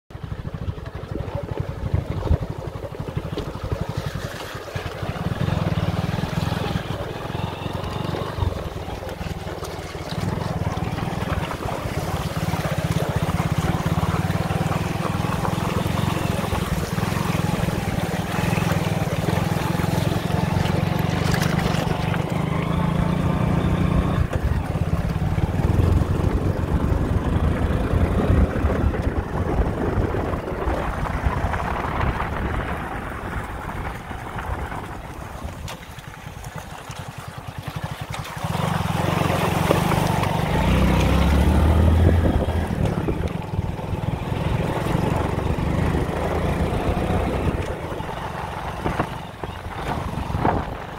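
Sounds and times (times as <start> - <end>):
motorcycle engine rumbling: 0.1 - 50.9.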